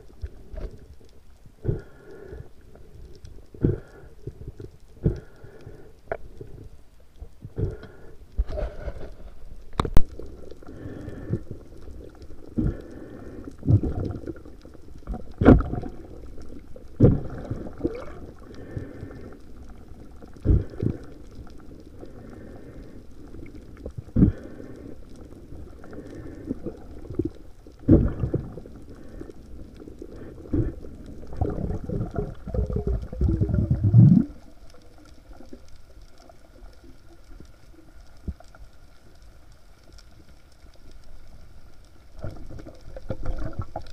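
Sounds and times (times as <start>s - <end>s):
dull underwater hum: 0.0s - 43.9s
underwater rumbling: 0.0s - 43.9s.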